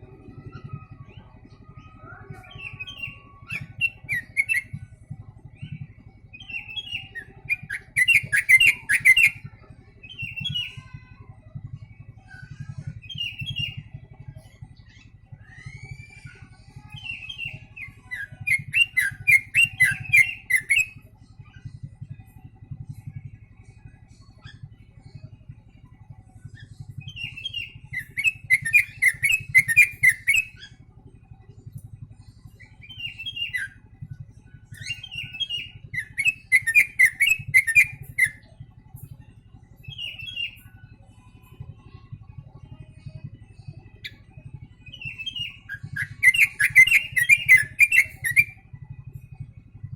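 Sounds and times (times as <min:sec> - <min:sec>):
bulbul singing: 0:00.0 - 0:49.9.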